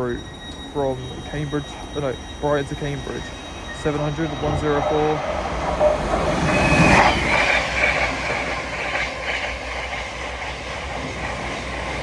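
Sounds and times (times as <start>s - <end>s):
faint high ringing tones: 0.0s - 10.2s
train passing: 0.0s - 12.0s.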